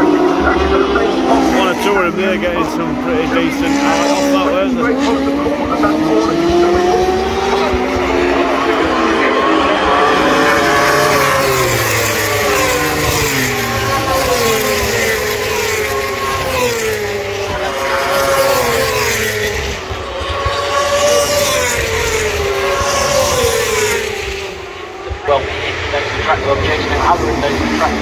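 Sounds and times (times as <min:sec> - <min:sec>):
motorbike engines passing at speed: 0:00.0 - 0:28.0.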